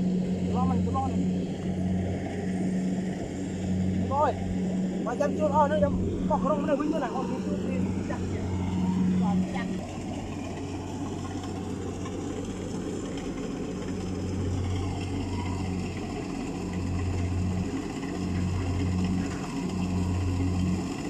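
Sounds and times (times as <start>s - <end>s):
combine harvester engine humming: 0.0s - 21.0s.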